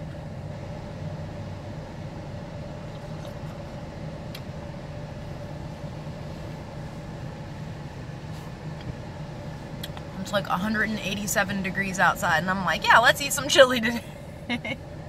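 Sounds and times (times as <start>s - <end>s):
idling car hum from inside: 0.0s - 15.0s.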